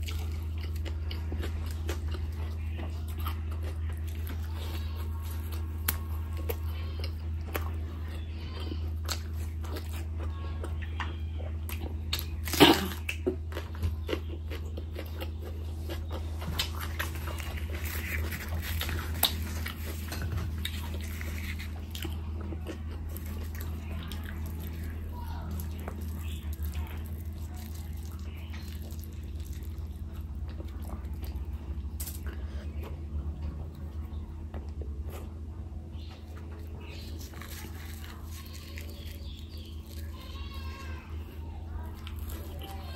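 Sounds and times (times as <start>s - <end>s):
chewing with wet mouth clicks: 0.0s - 40.4s
steady low hum: 0.0s - 42.9s.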